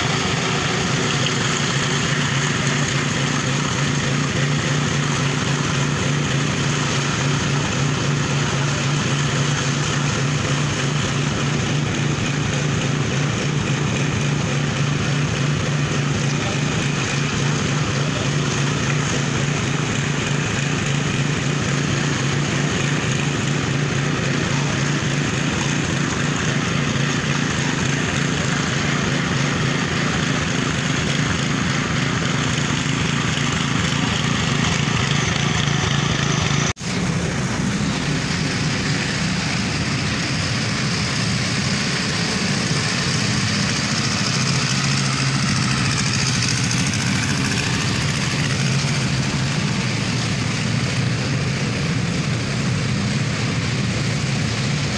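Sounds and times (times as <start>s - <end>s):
power trowel engine droning: 0.0s - 54.9s.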